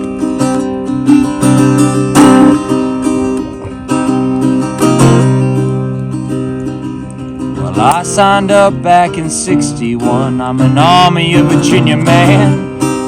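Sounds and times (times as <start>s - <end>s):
strummed acoustic guitar music: 0.0s - 13.0s.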